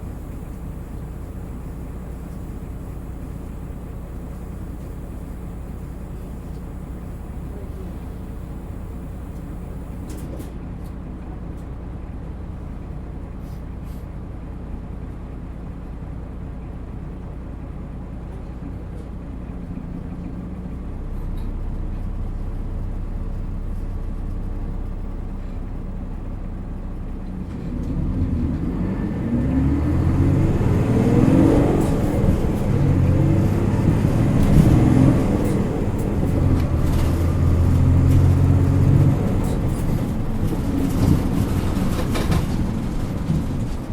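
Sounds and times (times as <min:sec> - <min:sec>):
bus diesel engine accelerating: 0:00.0 - 0:43.9.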